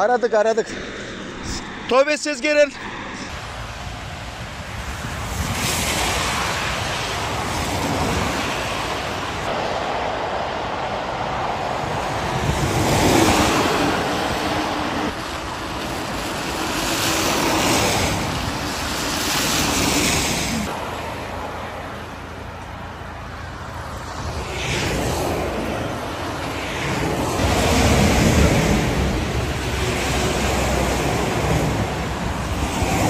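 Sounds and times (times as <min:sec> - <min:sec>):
wind rushing: 0:00.2 - 0:21.9, 0:23.6 - 0:33.0.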